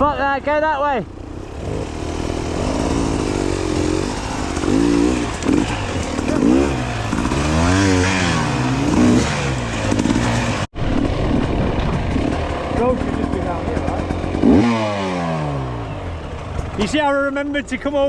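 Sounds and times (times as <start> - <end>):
motorcycle engine revving: 0.0 - 17.1.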